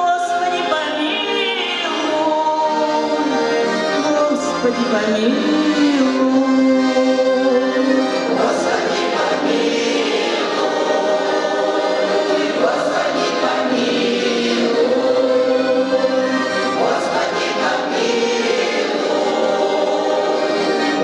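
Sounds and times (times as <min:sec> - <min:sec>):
musical accompaniment: 0:00.0 - 0:21.0
choir singing: 0:00.6 - 0:21.0.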